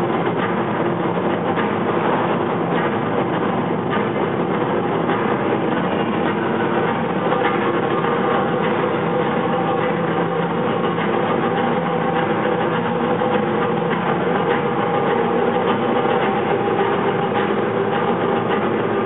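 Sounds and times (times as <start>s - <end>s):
dance music over sound system: 0.0s - 19.0s.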